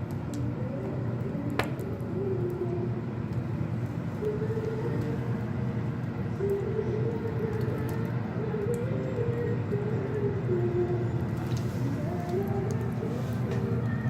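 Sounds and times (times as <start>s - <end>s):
wood fire rumbling: 0.0s - 9.0s, 11.1s - 14.0s.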